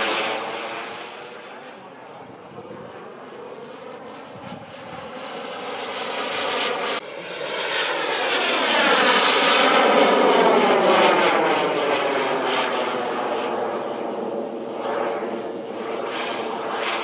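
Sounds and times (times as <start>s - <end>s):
model jet turbine whine: 0.0s - 17.0s.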